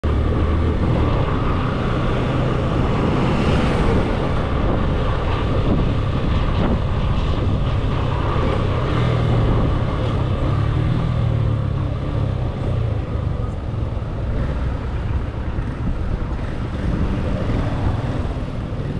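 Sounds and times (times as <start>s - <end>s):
wind and road noise: 0.0s - 18.9s.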